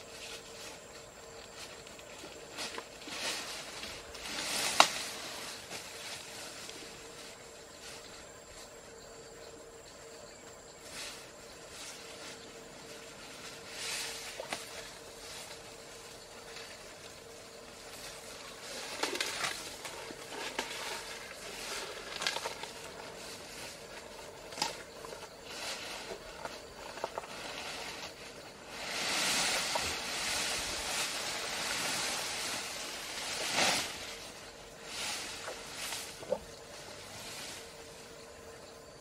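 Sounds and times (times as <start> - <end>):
elephant trunk rustling grass: 0.0 - 9.1, 10.7 - 38.5.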